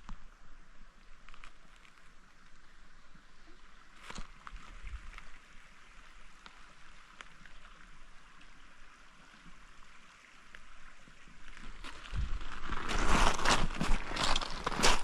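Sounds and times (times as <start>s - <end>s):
creek water trickling: 0.0s - 15.0s.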